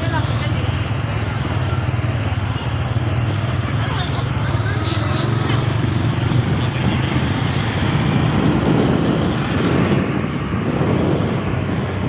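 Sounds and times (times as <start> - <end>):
motorcycle engine hum: 0.0 - 12.0
road and traffic noise: 0.0 - 12.0.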